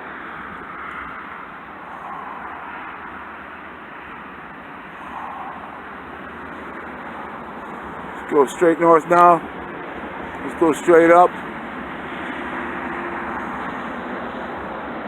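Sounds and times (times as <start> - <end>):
road traffic noise: 0.0 - 15.0
vehicle passing: 0.0 - 15.0.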